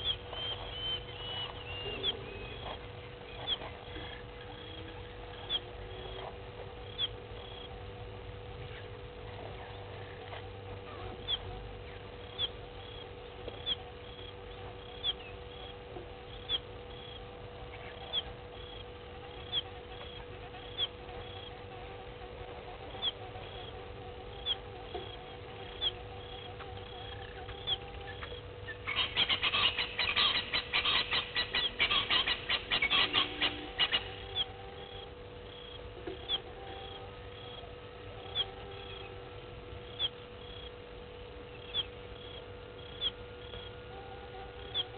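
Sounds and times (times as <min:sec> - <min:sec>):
rapid chattering animal calls: 0:00.0 - 0:07.8, 0:08.5 - 0:39.2, 0:41.5 - 0:43.7
steady hum: 0:00.0 - 0:44.9.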